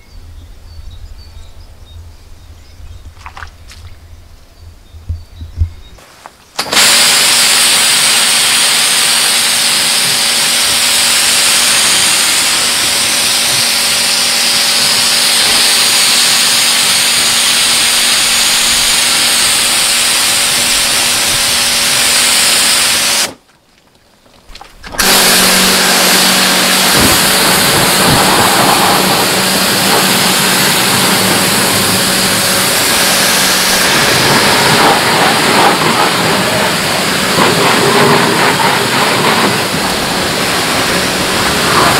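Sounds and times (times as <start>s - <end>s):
pressure washer water jet hiss: 6.6s - 23.4s, 24.9s - 41.9s
pump motor hum: 6.6s - 23.4s, 24.6s - 41.9s.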